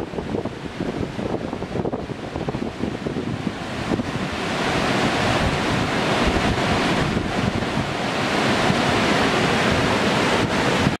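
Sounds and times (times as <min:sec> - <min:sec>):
churning whitewater: 0:00.0 - 0:11.0
wind buffeting microphone: 0:00.0 - 0:11.0.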